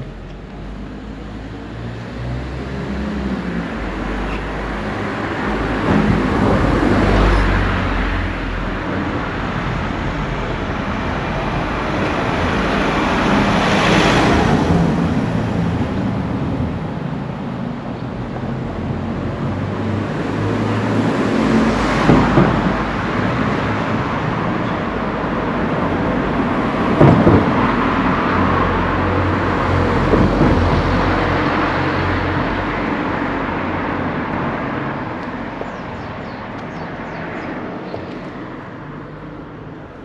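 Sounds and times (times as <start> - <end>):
vehicle passing on street: 0.0 - 40.0.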